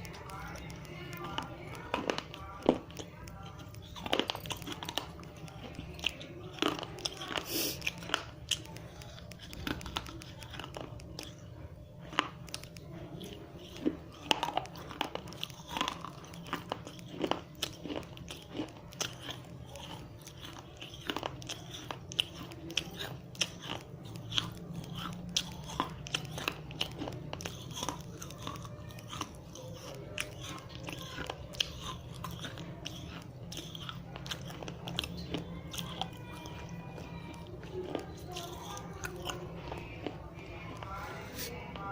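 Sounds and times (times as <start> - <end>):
teeth crunching clay: 0.0 - 41.9.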